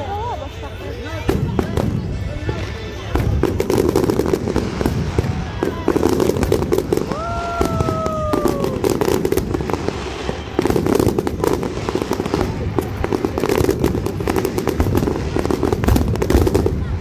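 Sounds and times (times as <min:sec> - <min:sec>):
fireworks crackling and booming: 0:00.0 - 0:17.0.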